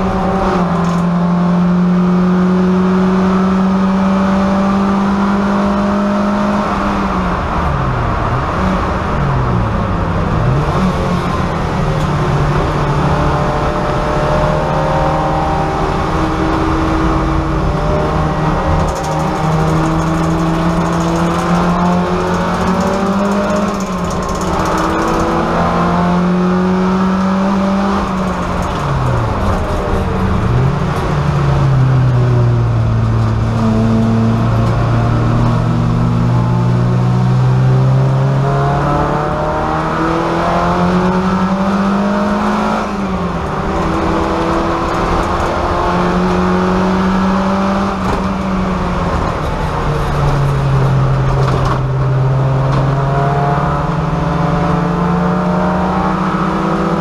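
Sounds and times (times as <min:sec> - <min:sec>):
race car engine revving: 0:08.2 - 0:57.0.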